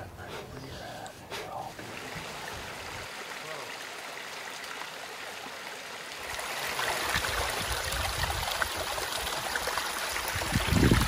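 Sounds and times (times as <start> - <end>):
creek water rushing over rocks: 1.3 - 11.0.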